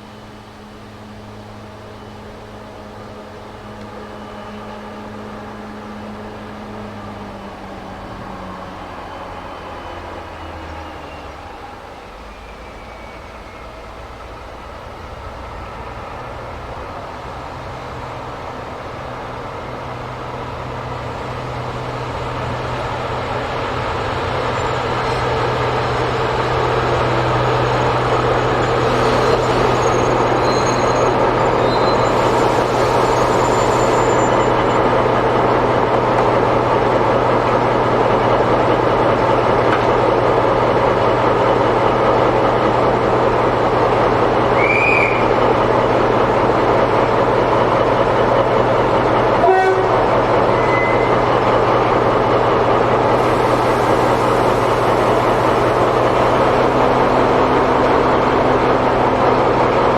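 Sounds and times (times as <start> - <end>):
train approaching: 0.0 - 59.9.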